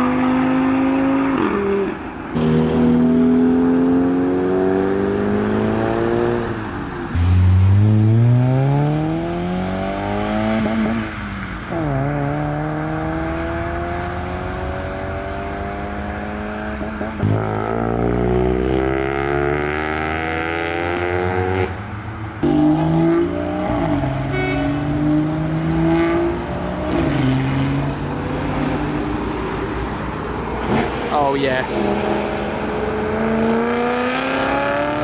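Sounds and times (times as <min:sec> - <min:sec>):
cars accelerating hard: 0:00.0 - 0:35.0.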